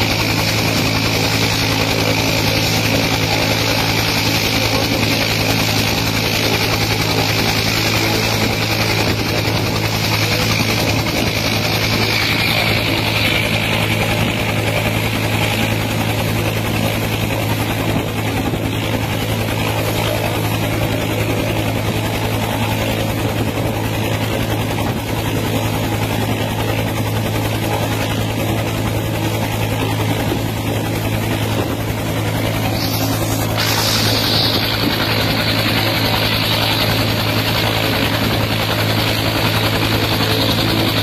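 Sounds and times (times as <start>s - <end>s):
helicopter turbine and rotor drone: 0.0s - 41.0s.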